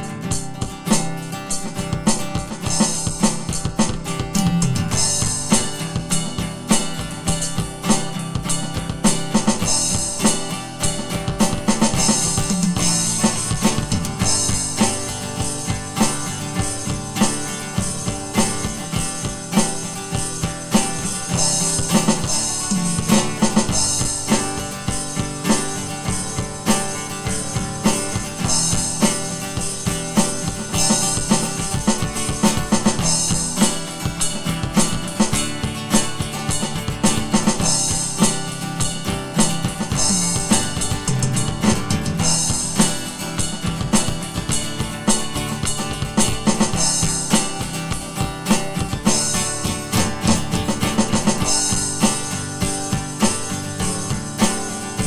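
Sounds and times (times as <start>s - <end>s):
electronic drum kit groove: 0.0s - 55.0s.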